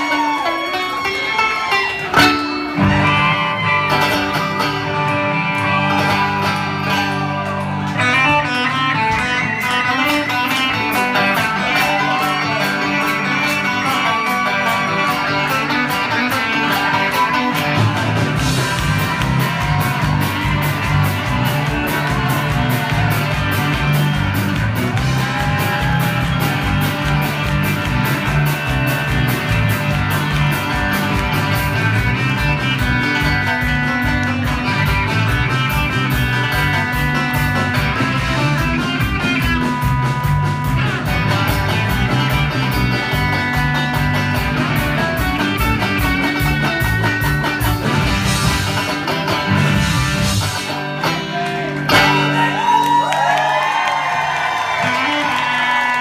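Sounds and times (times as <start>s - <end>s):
banjo: 0.0s - 52.6s
bass guitar: 0.0s - 56.0s
drums: 0.0s - 56.0s
electric guitars: 0.0s - 56.0s.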